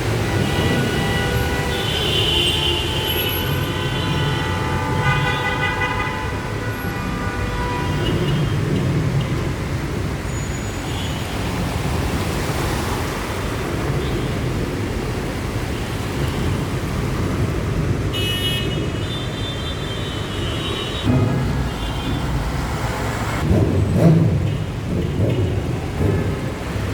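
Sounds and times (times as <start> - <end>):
traffic engines and tyres rumbling: 0.0 - 26.9.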